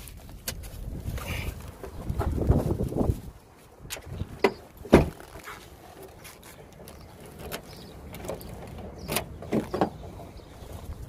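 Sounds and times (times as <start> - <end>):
wind rumbling on microphone: 0.0 - 5.4, 6.8 - 11.0.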